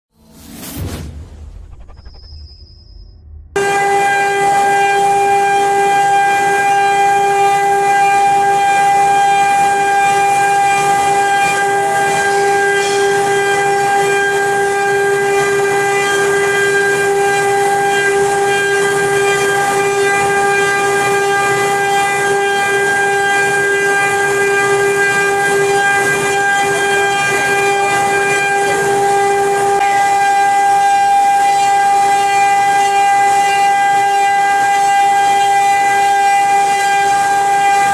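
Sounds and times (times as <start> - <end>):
router spindle high whine: 1.9 - 37.9.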